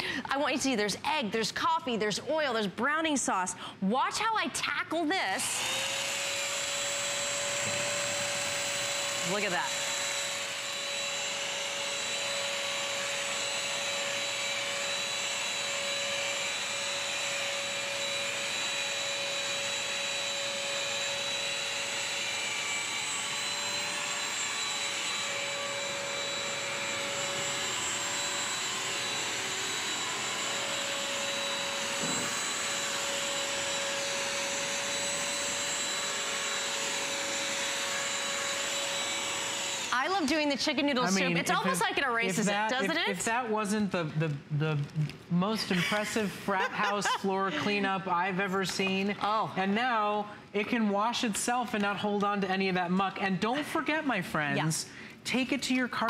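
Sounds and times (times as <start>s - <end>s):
wet vacuum mop motor whine: 5.4s - 43.7s, 45.7s - 53.4s.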